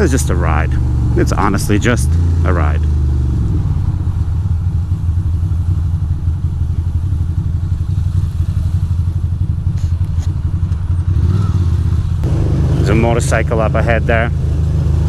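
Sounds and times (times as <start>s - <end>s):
motorcycle engine idling low: 0.0s - 14.9s.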